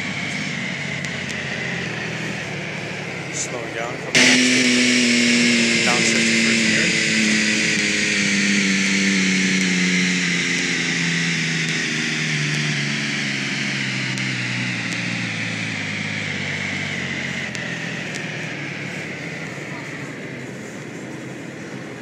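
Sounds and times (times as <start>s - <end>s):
high falling whine: 0.0s - 22.0s
simulated car engine slowing: 0.0s - 22.0s.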